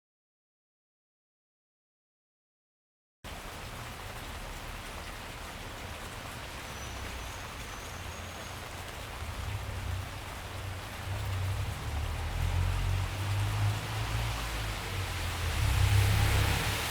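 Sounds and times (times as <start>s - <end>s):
steady rainfall: 3.3s - 16.9s.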